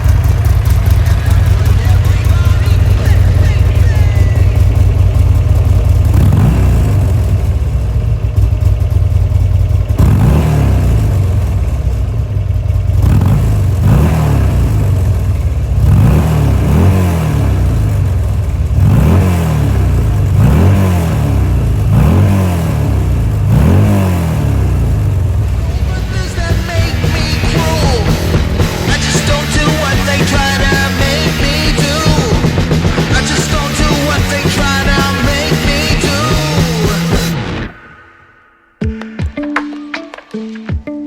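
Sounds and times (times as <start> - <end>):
motorcycle engine revving: 0.0 - 38.4.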